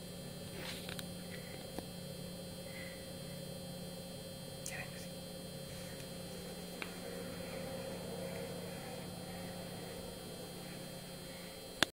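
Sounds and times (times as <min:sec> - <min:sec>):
low electrical hum: 0:00.0 - 0:11.9.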